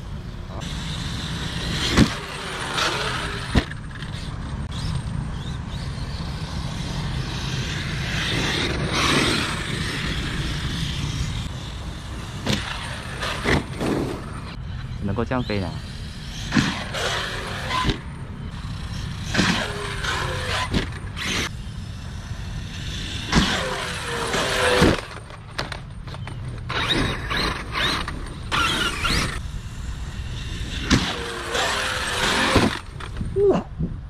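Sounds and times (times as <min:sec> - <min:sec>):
electric motor revving: 0:00.6 - 0:14.6, 0:15.4 - 0:33.3.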